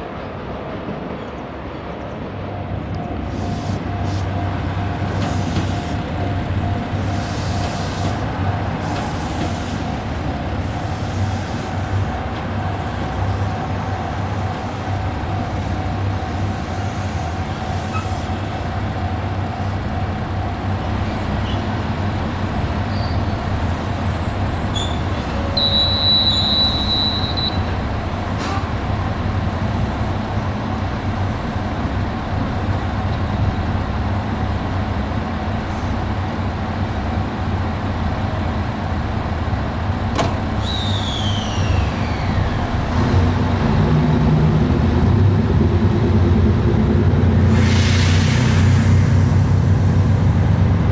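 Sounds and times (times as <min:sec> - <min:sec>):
diesel railcar rumbling: 0:00.0 - 0:50.9.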